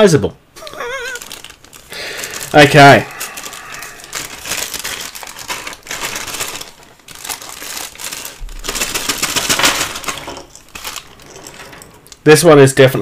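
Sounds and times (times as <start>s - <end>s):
plastic bag crinkling: 0.6s - 12.2s
small plastic parts rattling: 0.7s - 12.2s.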